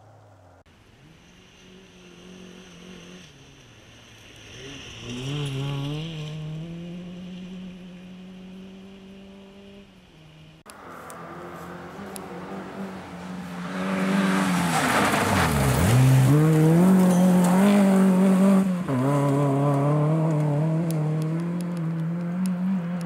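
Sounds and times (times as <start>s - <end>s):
rally car engine accelerating: 0.0s - 23.0s.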